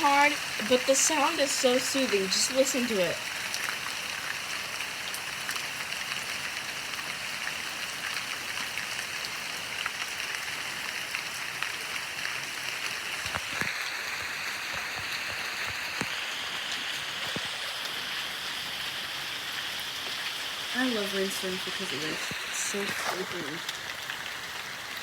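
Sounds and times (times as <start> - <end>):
heavy rain hissing: 0.0 - 25.0
raindrops ticking: 0.0 - 25.0.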